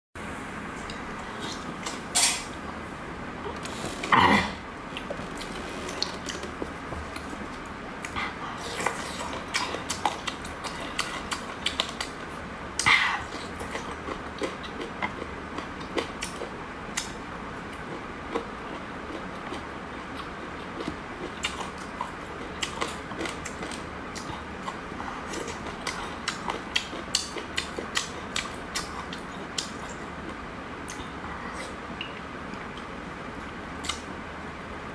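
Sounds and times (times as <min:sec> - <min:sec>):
loud long eating noise: 0:03.4 - 0:32.0
crunchy chewing: 0:04.8 - 0:34.1.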